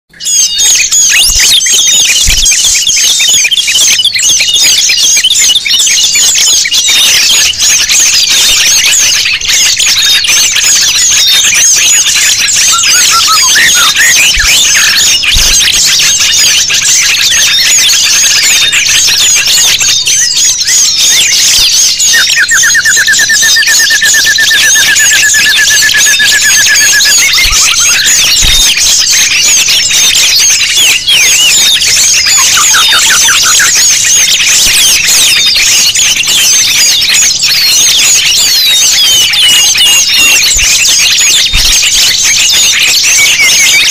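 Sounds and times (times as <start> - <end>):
rapid bird trill: 0.1 - 43.9
songbirds chirping: 0.1 - 43.9.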